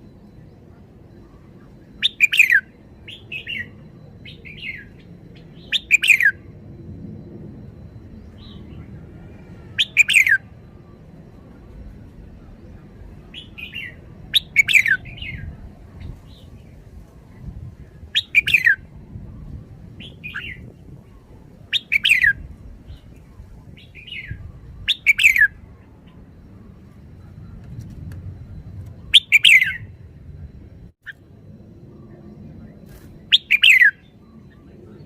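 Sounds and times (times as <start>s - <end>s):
bulbul singing: 0.0s - 27.6s, 28.4s - 35.0s.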